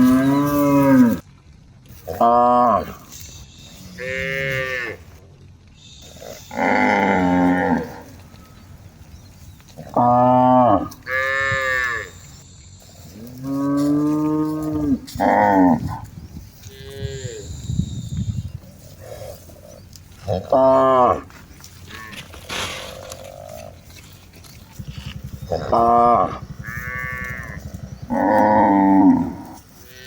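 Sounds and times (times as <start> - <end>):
cattle mooing: 0.0 - 1.2, 2.1 - 5.2, 6.0 - 9.0, 9.7 - 12.4, 13.0 - 30.0.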